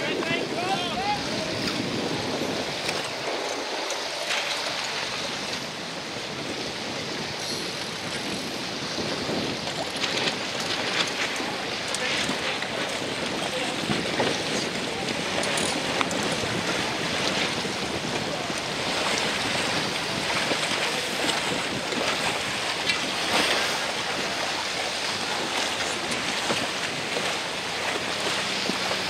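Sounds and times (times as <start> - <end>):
waves washing and splashing: 0.0 - 29.0
wind buffeting microphone: 0.0 - 29.0.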